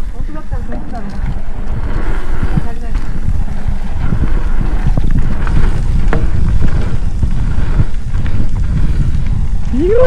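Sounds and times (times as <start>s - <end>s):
bike tyres rumbling: 0.0s - 10.0s
wind buffeting microphone: 0.0s - 10.0s.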